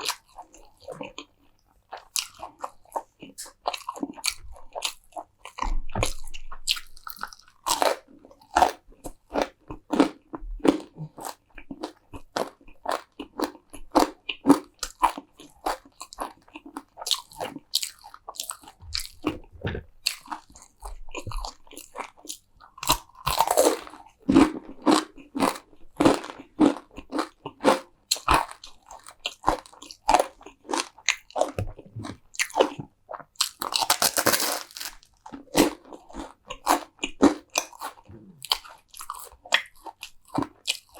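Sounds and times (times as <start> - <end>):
chewing crunchy food: 0.0 - 40.9.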